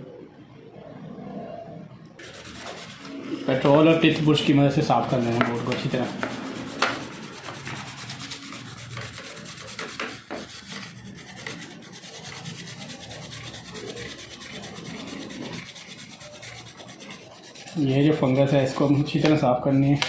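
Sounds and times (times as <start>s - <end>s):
toothbrush scrubbing circuit board: 2.2s - 20.0s.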